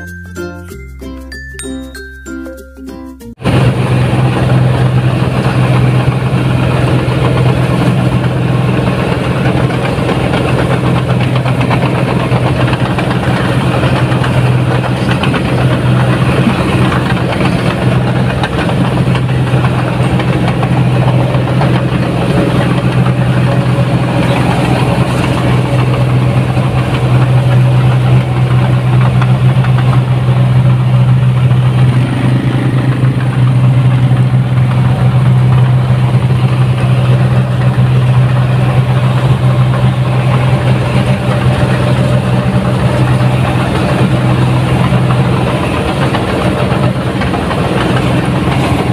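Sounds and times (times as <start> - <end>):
diesel engine droning: 3.2 - 48.9.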